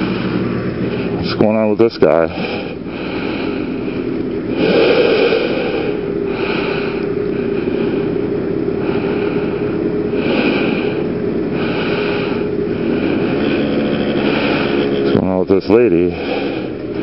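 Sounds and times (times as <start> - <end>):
scooter engine revving: 0.0 - 17.0.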